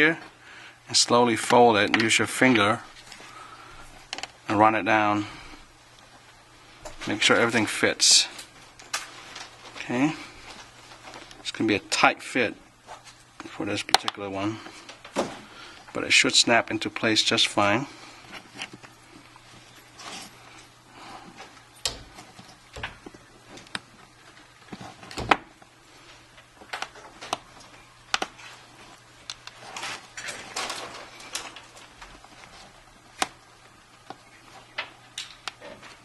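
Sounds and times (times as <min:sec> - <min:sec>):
rubbing and handling noise: 0:01.1 - 0:36.0.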